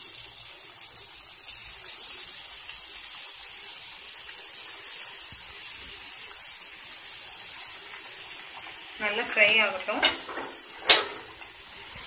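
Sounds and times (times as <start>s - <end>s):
deep-frying sizzling hiss: 0.0s - 12.0s.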